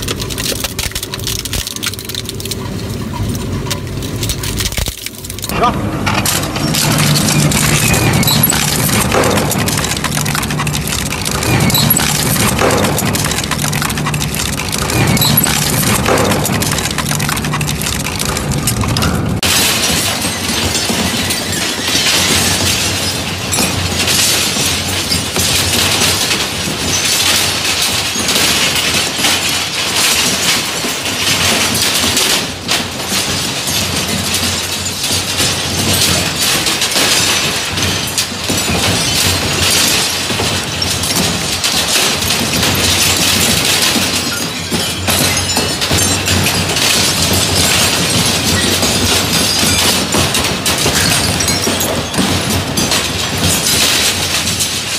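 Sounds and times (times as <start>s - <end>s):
shredder crunching metal: 0.0s - 54.9s.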